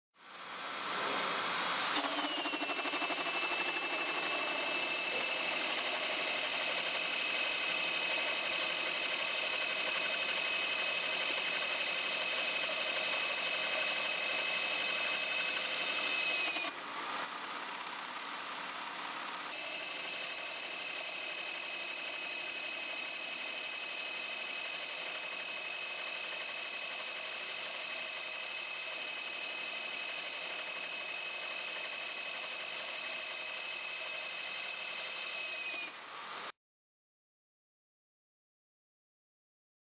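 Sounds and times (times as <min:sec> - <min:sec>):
machine noise: 0:00.6 - 0:35.9.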